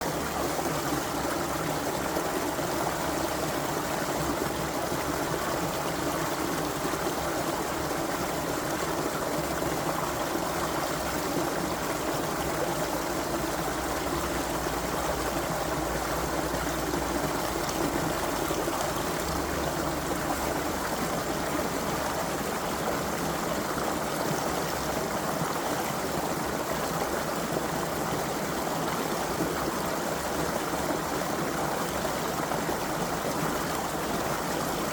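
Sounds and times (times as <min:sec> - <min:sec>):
creek water flowing: 0:00.0 - 0:34.9.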